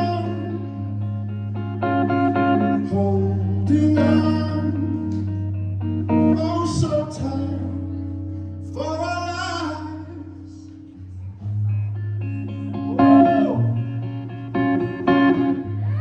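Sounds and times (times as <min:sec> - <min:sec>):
guitar: 0:00.0 - 0:16.0
live band music: 0:00.0 - 0:16.0.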